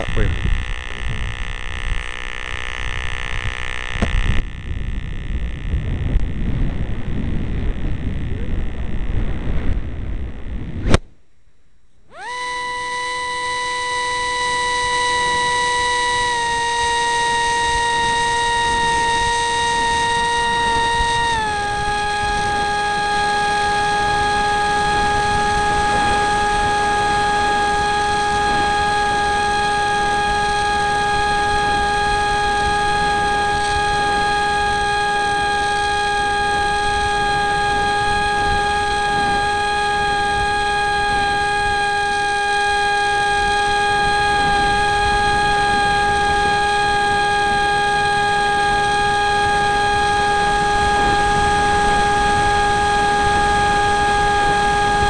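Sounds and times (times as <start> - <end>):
electric motor high whine: 0.0 - 11.0, 12.0 - 55.0.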